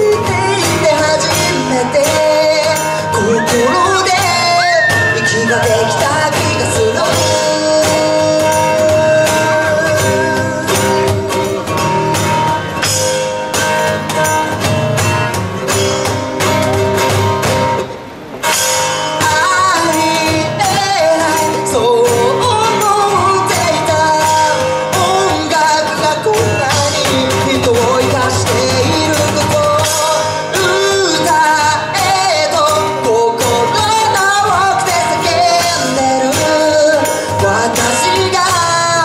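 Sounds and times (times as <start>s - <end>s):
lead vocal singing: 0.0s - 11.7s, 19.1s - 39.0s
acoustic guitar: 0.0s - 39.0s
cajon beat: 0.0s - 39.0s.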